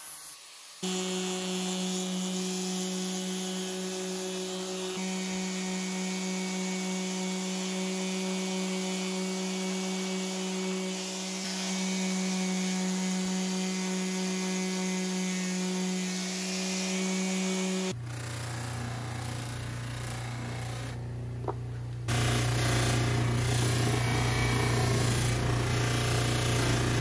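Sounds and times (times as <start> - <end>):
power sander on steel: 0.0 - 21.0, 22.1 - 27.0
bench grinder humming: 0.6 - 27.0.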